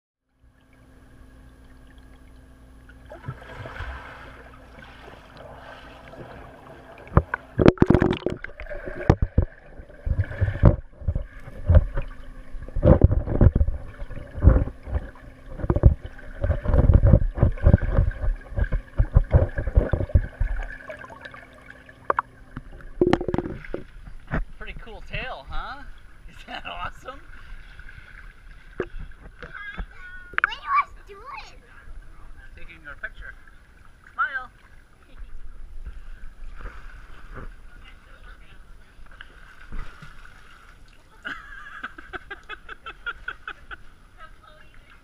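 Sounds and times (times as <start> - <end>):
muffled underwater thumps and surges: 0.6 - 25.2, 27.2 - 32.4, 33.4 - 40.7.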